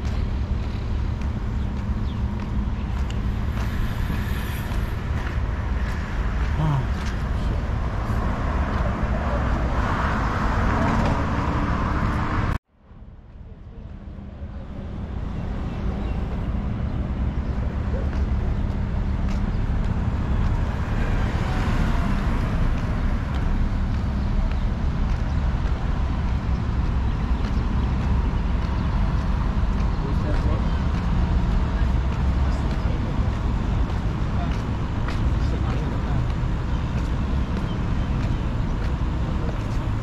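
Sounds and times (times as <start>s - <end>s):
vehicle rumble with hiss: 0.0s - 40.0s.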